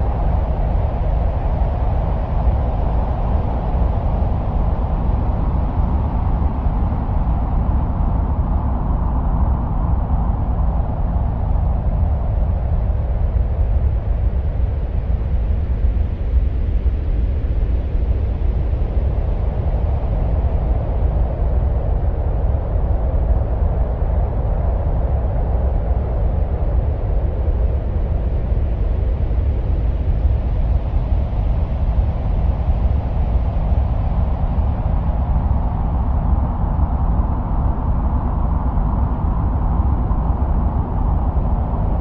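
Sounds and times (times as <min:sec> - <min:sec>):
deep wind-like rumble with hiss: 0:00.0 - 0:42.0.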